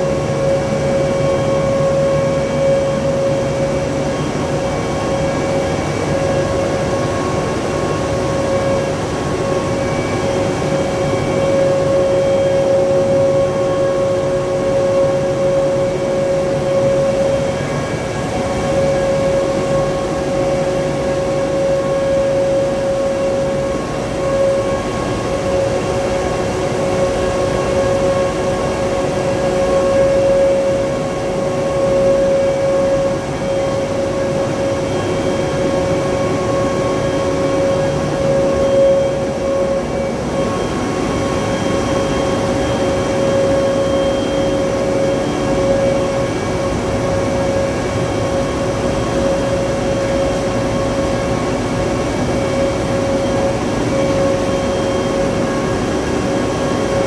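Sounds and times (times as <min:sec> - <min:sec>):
heavy machinery drone: 0:00.0 - 0:57.0.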